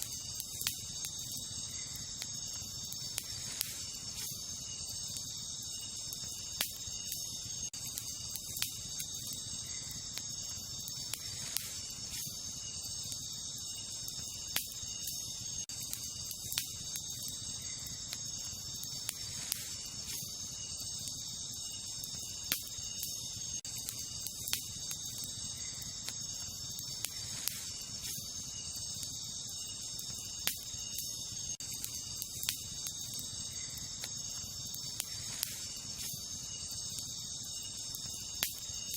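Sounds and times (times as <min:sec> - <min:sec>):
campfire crackling and popping: 0:00.0 - 0:38.9
night insects chorus: 0:00.0 - 0:38.9.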